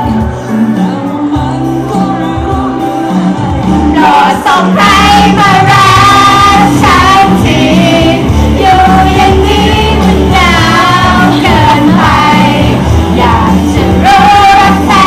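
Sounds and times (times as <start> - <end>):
women singing pop song: 0.0 - 15.0.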